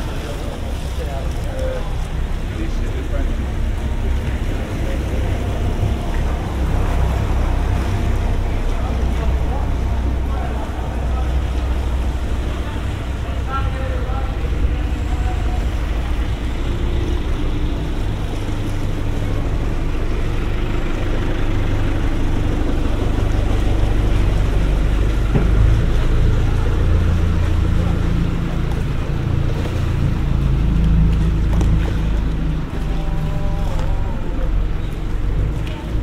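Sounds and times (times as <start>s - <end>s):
boat engine drone: 0.0s - 36.0s
water churning in wake: 0.0s - 36.0s.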